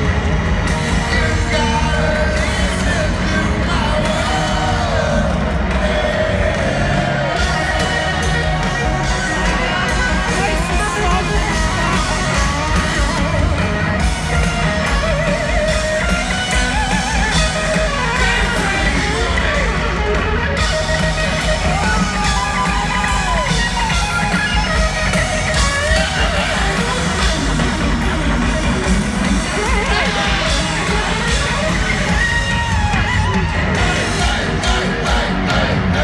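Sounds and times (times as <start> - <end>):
bass guitar: 0.0 - 36.0
distorted electric guitar solo: 0.0 - 36.0
pounding drums: 0.0 - 36.0.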